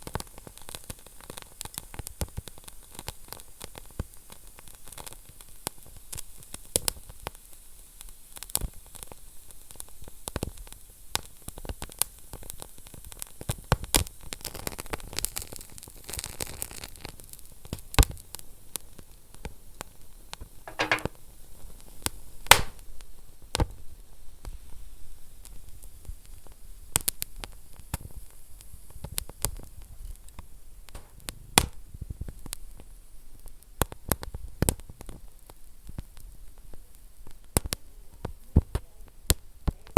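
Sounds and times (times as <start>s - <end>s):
fire crackling and popping: 0.0s - 20.9s, 22.0s - 39.9s.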